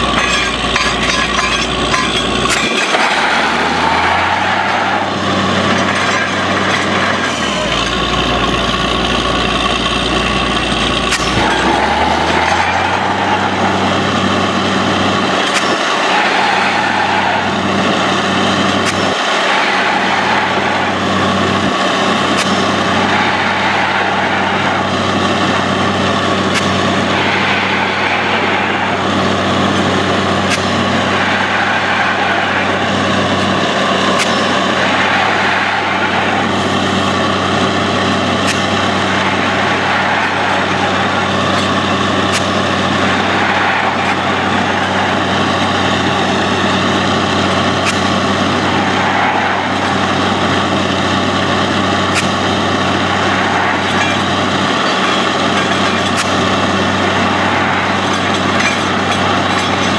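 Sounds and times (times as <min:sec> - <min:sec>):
drilling rig engine running: 0:00.0 - 0:59.9
rushing air and cuttings: 0:00.0 - 0:59.9.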